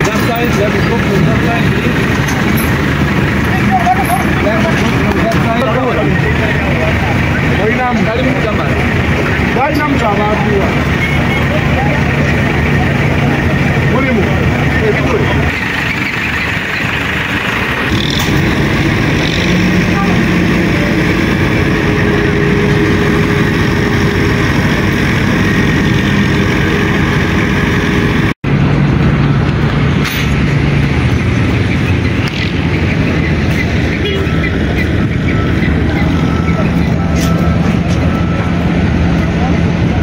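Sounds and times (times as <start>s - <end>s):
people's voices: 0.0s - 27.2s, 30.8s - 40.0s
diesel construction machinery running: 0.0s - 40.0s.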